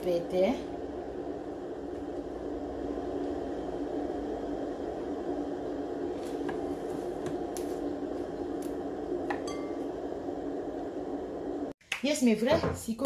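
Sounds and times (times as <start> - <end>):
background hum: 0.0 - 11.8.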